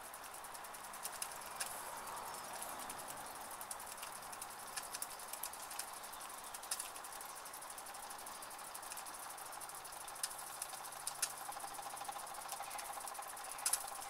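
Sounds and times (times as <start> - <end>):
toy steam engines hissing and ticking: 0.0 - 14.0
sharp clicks: 0.2 - 14.0.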